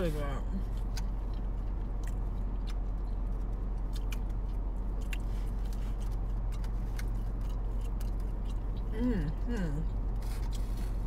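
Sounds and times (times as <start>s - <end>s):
low car hum: 0.0s - 11.0s
person chewing food: 0.6s - 11.0s.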